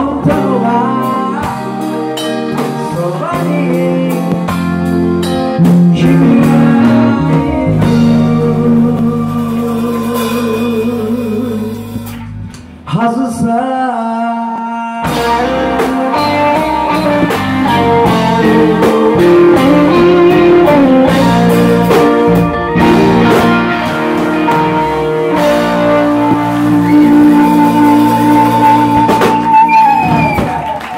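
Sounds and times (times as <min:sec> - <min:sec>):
drum kit: 0:00.0 - 0:13.0, 0:15.0 - 0:30.9
electric guitars: 0:00.0 - 0:13.5, 0:14.5 - 0:30.9
bass guitar: 0:00.0 - 0:30.9.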